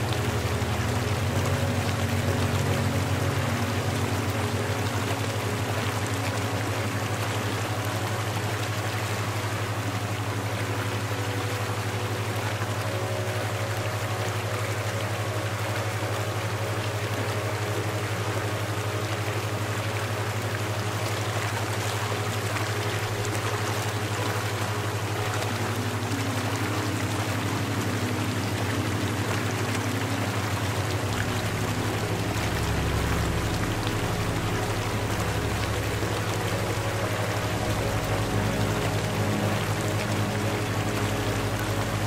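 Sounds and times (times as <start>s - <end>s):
low droning hum: 0.0s - 42.0s
running water rushing: 0.0s - 42.0s.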